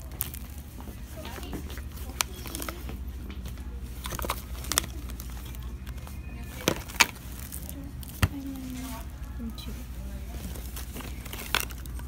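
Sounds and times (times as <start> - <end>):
faint background music: 0.0 - 12.0
rustling handling noise: 0.0 - 12.0
steady low hum: 0.0 - 12.0.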